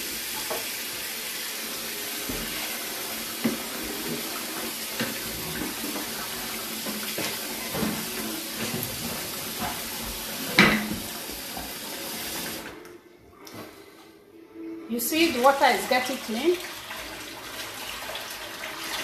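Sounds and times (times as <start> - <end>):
tap water running into pot: 0.0 - 12.7, 15.6 - 19.0.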